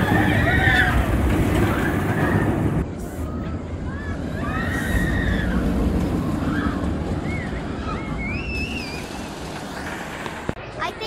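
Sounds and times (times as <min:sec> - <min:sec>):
distant screams: 0:00.0 - 0:10.2
roller coaster rumbling on track: 0:00.0 - 0:11.0.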